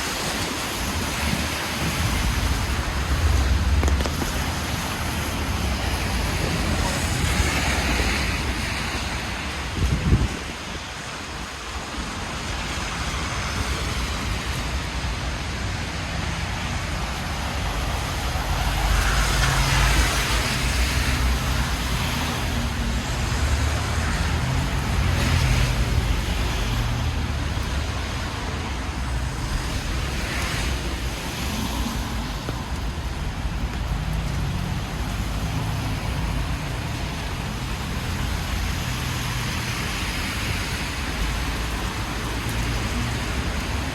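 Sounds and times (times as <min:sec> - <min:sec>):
cars passing: 0:00.0 - 0:43.9
tyres hissing on wet road: 0:00.0 - 0:43.9
car engines rumbling: 0:00.2 - 0:10.8, 0:11.4 - 0:43.9.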